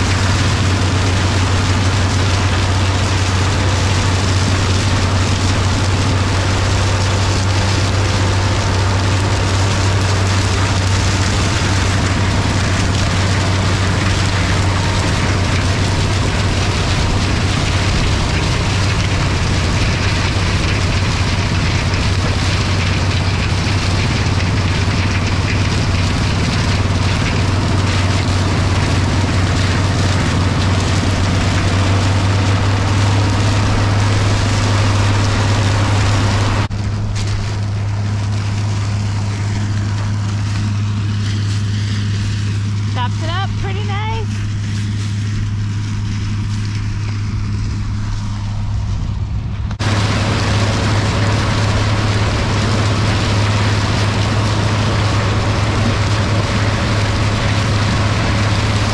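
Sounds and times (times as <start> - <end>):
chopper shredding stalks hiss: 0.0 - 58.9
tractor diesel engine drone: 0.0 - 58.9.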